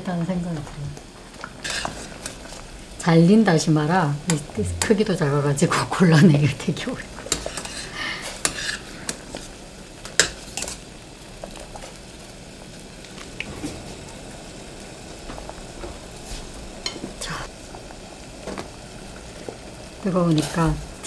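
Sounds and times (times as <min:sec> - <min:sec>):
stock boiling in a pot: 0:00.0 - 0:21.0.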